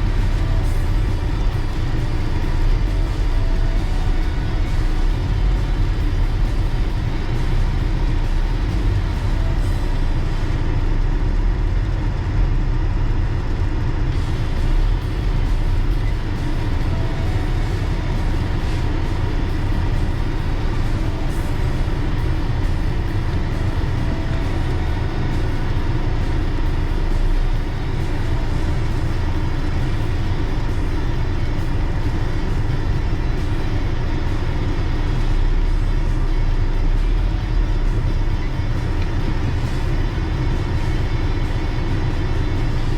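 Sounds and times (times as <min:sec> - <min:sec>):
car engine and tyre rumble: 0:00.0 - 0:42.9.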